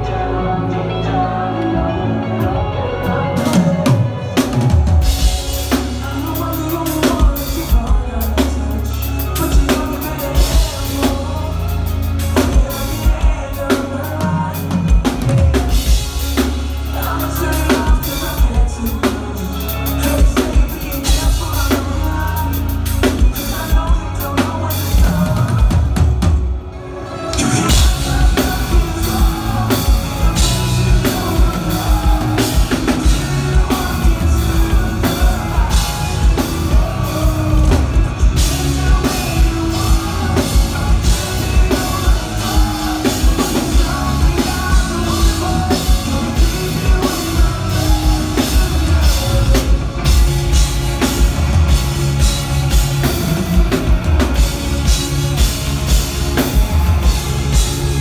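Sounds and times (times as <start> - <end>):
electric guitars: 0.0 - 58.0
person singing: 0.0 - 58.0
drum kit beat: 3.4 - 26.7, 27.4 - 58.0.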